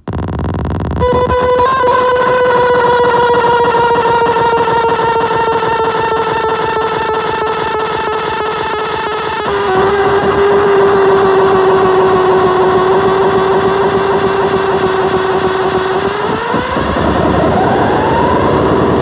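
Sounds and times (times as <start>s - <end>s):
noisy pitched drone from speaker: 0.0s - 19.0s.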